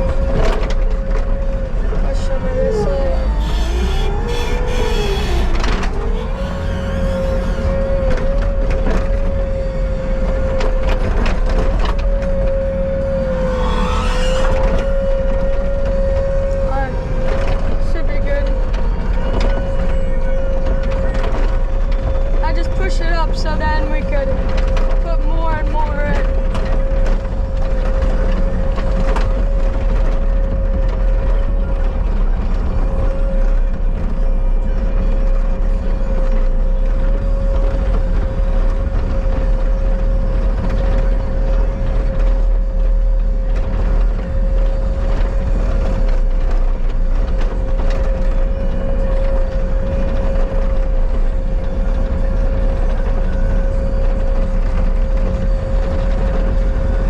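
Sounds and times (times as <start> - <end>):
skid steer engine rumble: 0.0 - 57.0.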